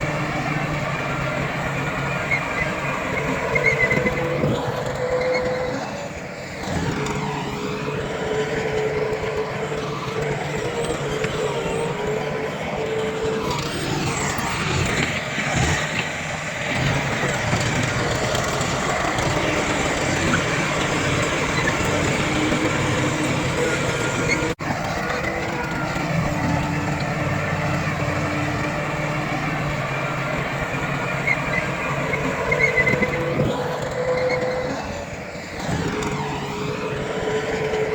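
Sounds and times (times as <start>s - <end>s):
diesel earthmoving machinery running: 0.0s - 37.9s.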